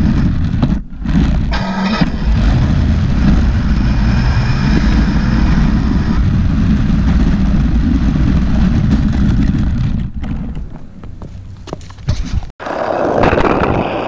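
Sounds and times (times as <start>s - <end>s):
tyres rumbling on concrete: 0.0s - 14.0s.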